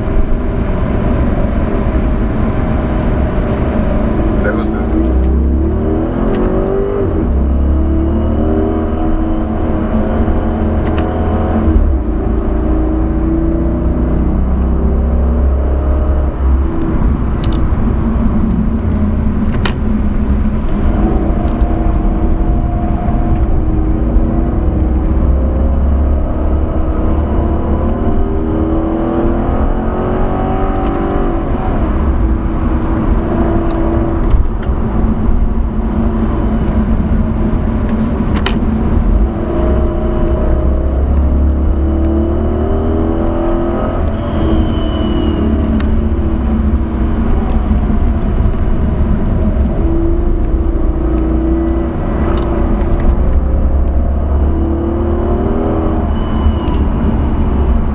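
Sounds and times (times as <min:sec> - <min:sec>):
car engine accelerating hard: 0:00.0 - 0:57.9
road and tyre noise: 0:00.0 - 0:57.9.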